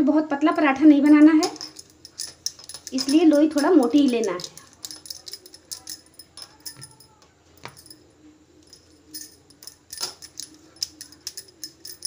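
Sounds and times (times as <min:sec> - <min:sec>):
faint steady hum: 0:00.0 - 0:12.0
bangles clinking: 0:00.4 - 0:12.0.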